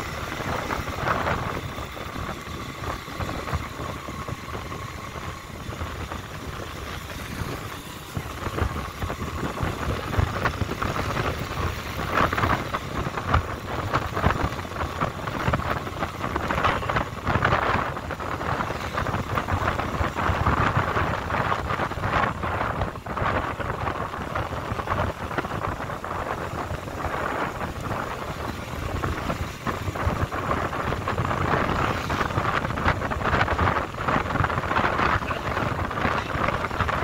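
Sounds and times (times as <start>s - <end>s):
vehicle running: 0.0s - 37.0s
wind buffeting microphone: 0.0s - 37.0s.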